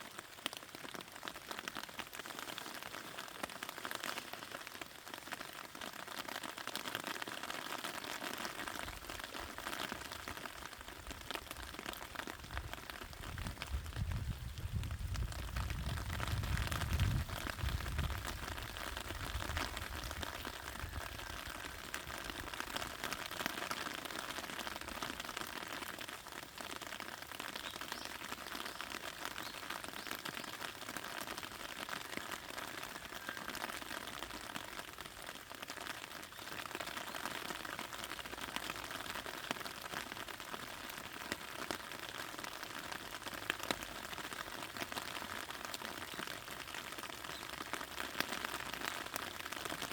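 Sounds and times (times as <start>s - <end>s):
rain falling on plants: 0.0s - 49.9s.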